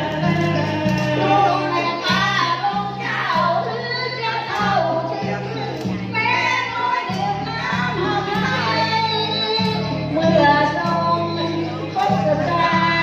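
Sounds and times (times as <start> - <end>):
instrumental accompaniment with bass: 0.0 - 13.0
woman singing into microphone: 0.0 - 13.0.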